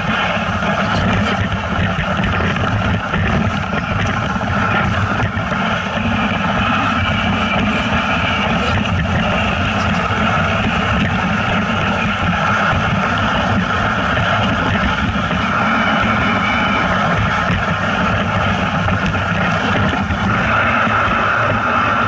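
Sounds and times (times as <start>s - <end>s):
rushing noise: 0.0s - 22.0s
vehicle engine running: 0.0s - 22.0s.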